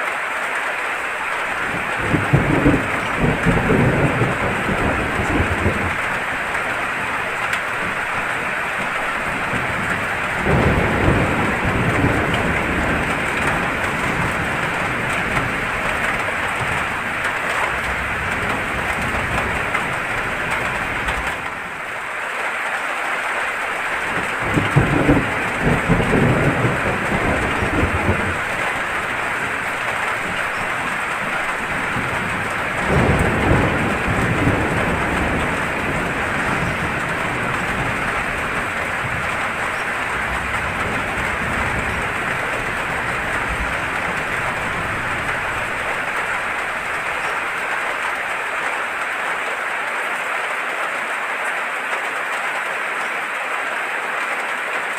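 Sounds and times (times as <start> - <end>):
heavy rain: 0.0 - 54.9
rolling thunder: 1.3 - 22.0, 23.7 - 48.4.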